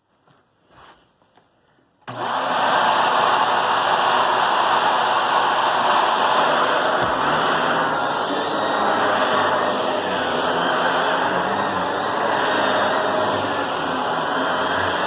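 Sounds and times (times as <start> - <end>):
vacuum cleaner running: 2.1 - 15.0.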